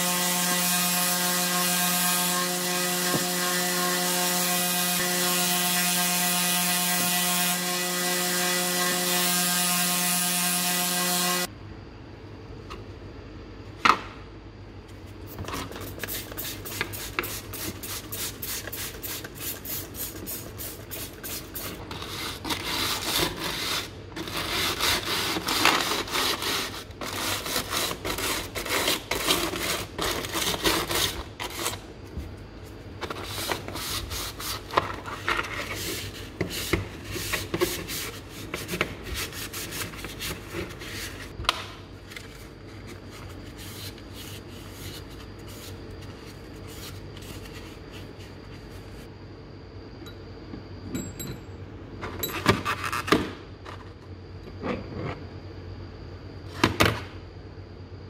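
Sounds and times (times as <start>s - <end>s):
faint steady hum: 11.0s - 58.0s.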